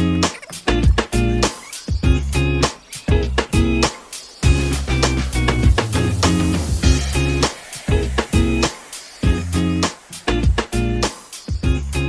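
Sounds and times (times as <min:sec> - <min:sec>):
strummed guitar music with beat: 0:00.0 - 0:12.0.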